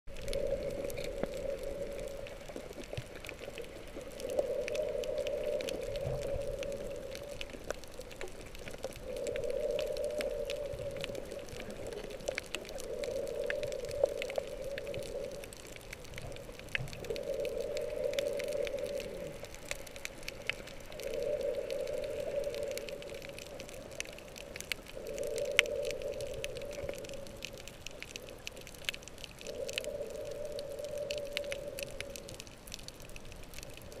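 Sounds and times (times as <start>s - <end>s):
faint clicks and crackles in water: 0.1s - 34.0s.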